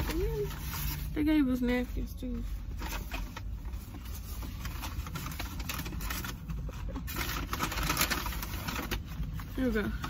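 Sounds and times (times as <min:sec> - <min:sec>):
paper bag rustling and crinkling: 0:00.0 - 0:10.0.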